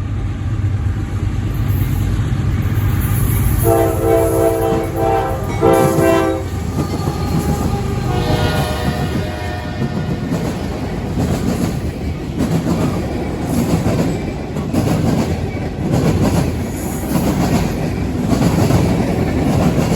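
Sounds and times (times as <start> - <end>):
train wheels rumbling on rail: 0.0 - 19.9.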